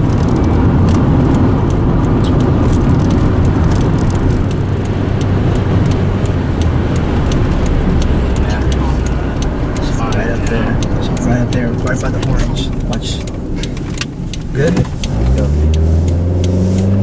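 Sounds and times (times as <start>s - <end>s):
sharp ticks: 0.0s - 17.0s
tyre and engine rumble in car: 0.0s - 17.0s.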